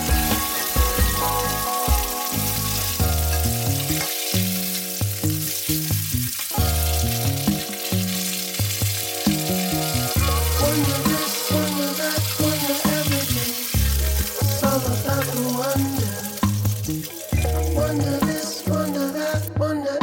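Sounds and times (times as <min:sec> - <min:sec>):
food sizzling in a pan: 0:00.0 - 0:19.5
background music with bass line: 0:00.0 - 0:20.0.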